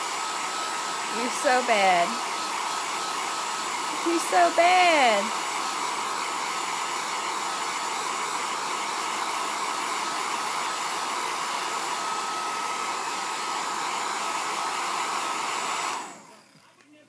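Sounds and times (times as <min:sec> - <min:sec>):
hair dryer running: 0:00.0 - 0:16.8.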